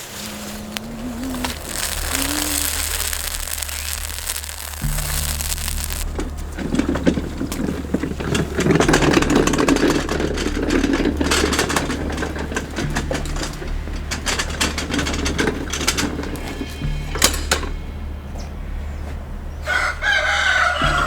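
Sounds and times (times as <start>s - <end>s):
fire crackling and popping: 0.0s - 17.6s
low fire rumble: 0.0s - 20.2s.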